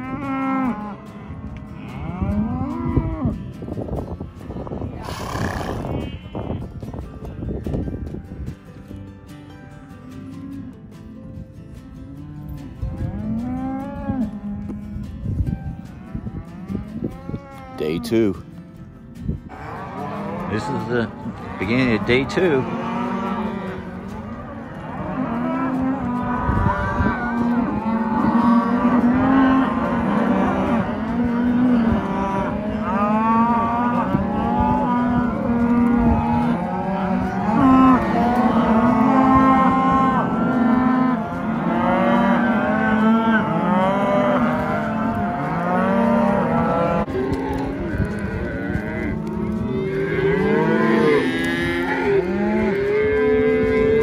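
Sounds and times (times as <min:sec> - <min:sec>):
cattle mooing: 0:00.0 - 0:03.4, 0:05.0 - 0:06.5, 0:12.1 - 0:15.1, 0:16.4 - 0:18.1, 0:19.5 - 0:54.0.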